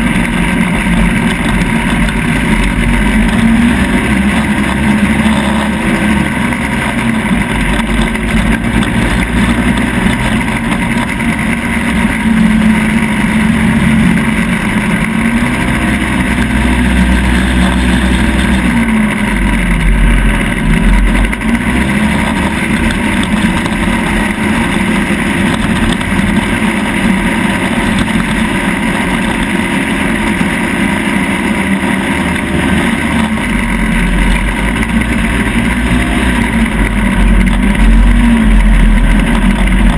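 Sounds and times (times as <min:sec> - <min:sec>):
off-road vehicle engine under load: 0:00.0 - 0:39.9.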